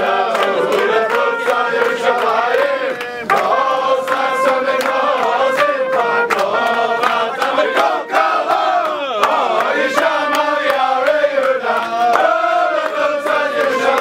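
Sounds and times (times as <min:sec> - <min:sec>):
men singing and chanting: 0:00.0 - 0:14.0.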